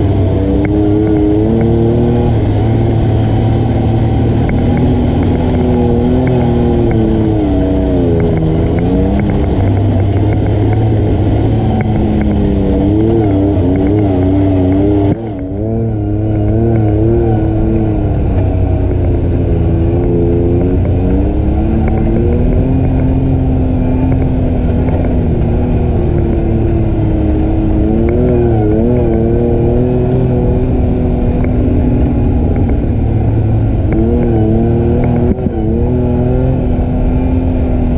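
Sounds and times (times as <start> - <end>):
atv engine revving: 0.0 - 37.9.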